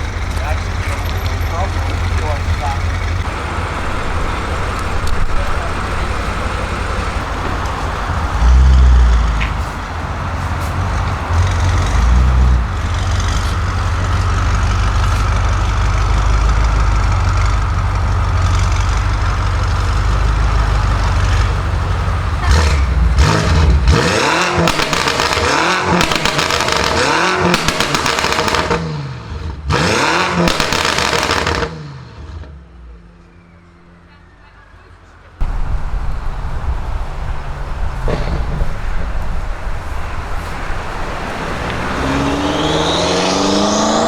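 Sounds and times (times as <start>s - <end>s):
car engine rumbling and revving: 0.0s - 34.1s, 35.1s - 44.0s.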